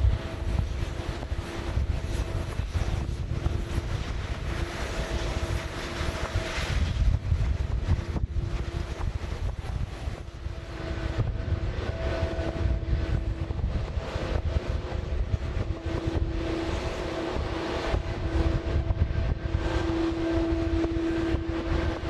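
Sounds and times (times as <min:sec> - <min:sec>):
jet engines running: 0:00.0 - 0:22.0
wind rumble on microphone: 0:00.0 - 0:22.0.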